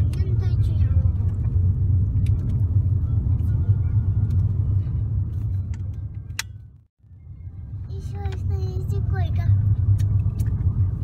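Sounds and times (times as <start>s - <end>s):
car cabin road and engine rumble: 0.0s - 11.0s.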